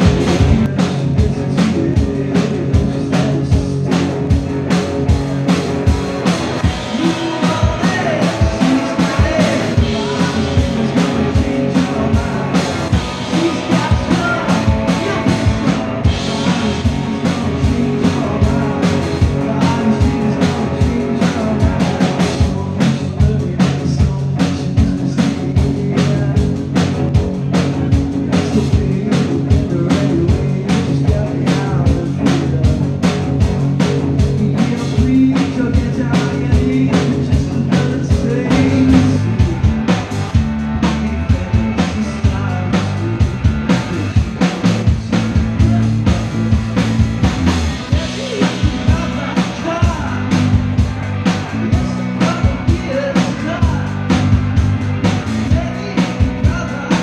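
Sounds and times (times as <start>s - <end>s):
busy drum beat: 0.0s - 57.0s
live rock band playing: 0.0s - 57.0s.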